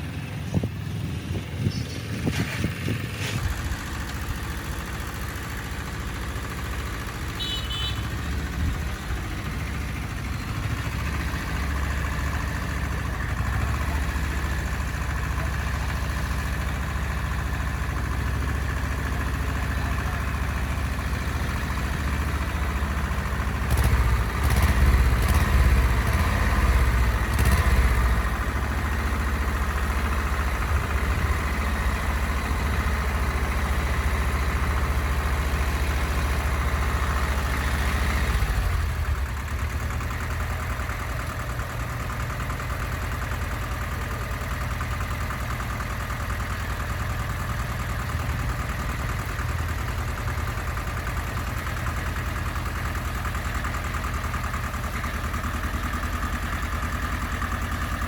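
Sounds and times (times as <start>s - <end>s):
engine idling: 0.0s - 58.0s
engine knocking: 2.6s - 58.0s.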